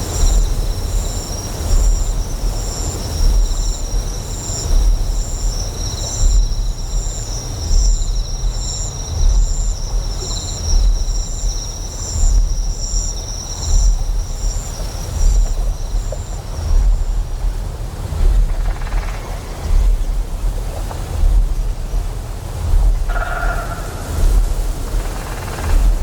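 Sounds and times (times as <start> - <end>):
deep generator hum: 0.0 - 26.0
insects chirping: 0.0 - 26.0.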